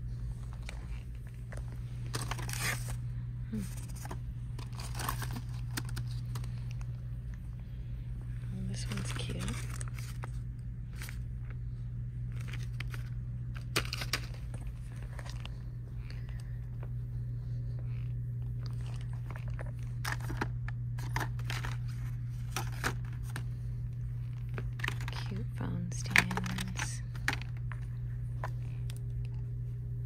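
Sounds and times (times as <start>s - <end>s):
steady low hum: 0.0s - 30.0s
plastic packaging crinkling: 0.4s - 7.0s, 8.6s - 11.6s, 12.2s - 16.5s, 18.6s - 29.4s.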